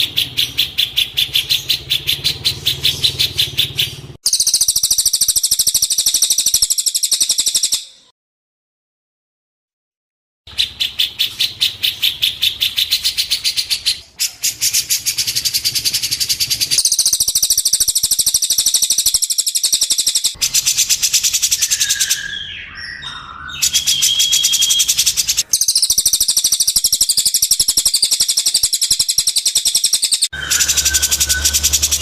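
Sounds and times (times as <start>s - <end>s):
buzzy bird trill: 0.0s - 8.1s, 10.5s - 32.0s
lower whistled bird call: 0.0s - 8.1s, 10.5s - 32.0s.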